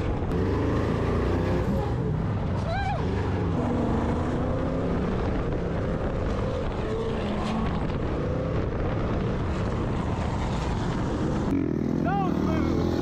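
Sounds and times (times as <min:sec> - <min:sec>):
off-road vehicle engines running: 0:00.0 - 0:13.0.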